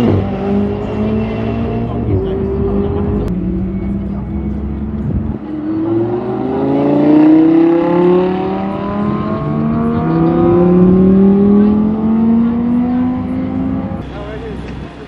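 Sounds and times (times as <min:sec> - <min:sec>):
car engines accelerating hard: 0:00.0 - 0:15.0.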